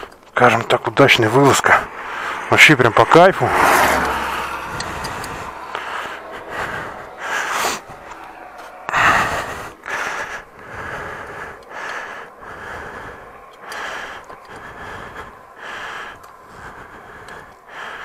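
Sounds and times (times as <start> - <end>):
person breathing close up: 1.3 - 2.6, 3.5 - 18.0.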